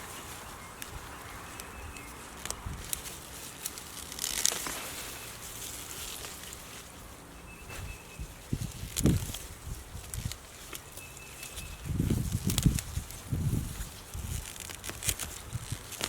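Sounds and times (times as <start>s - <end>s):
rustling in a garden: 0.0s - 16.0s.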